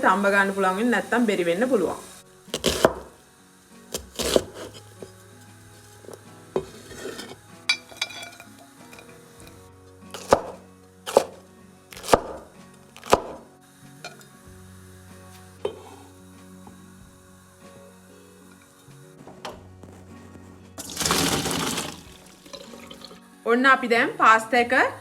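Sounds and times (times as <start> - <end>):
quiet background music: 0.0 - 25.0.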